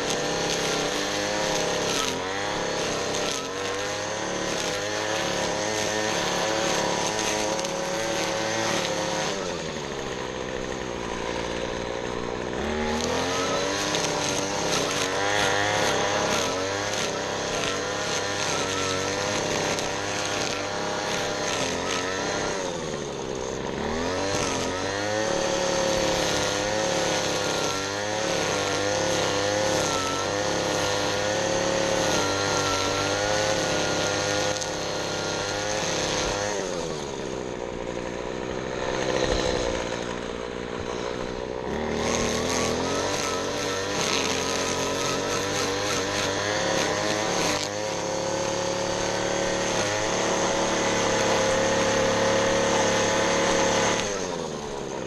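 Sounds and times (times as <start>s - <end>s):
lawn equipment engine running: 0.0s - 55.0s.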